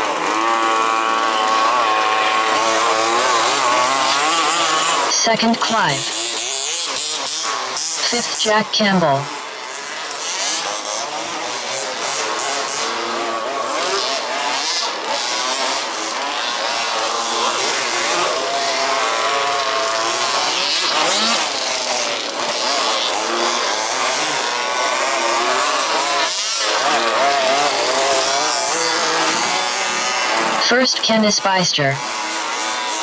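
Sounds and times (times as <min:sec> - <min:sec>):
rc buggy engines racing: 0:00.0 - 0:33.0.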